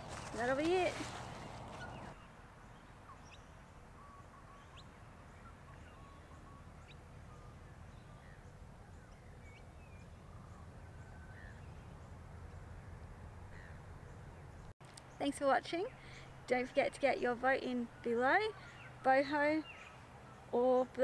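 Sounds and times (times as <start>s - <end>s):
birds chirping: 0.0s - 21.0s
low outdoor rumble: 0.0s - 21.0s.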